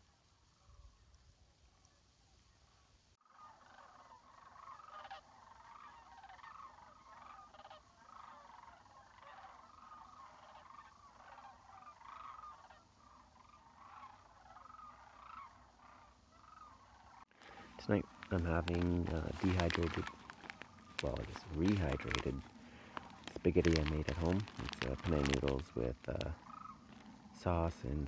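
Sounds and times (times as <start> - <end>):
chorus of frogs calling: 2.6 - 28.0.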